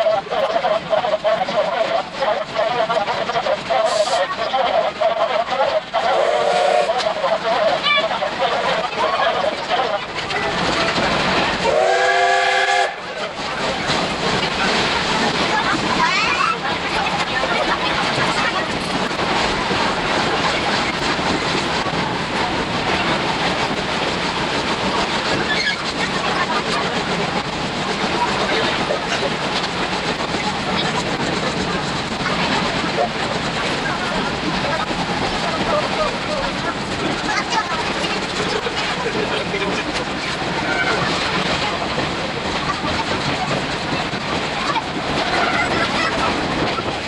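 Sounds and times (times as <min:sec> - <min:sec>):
train wheels rattling on rails: 0:00.0 - 0:47.0.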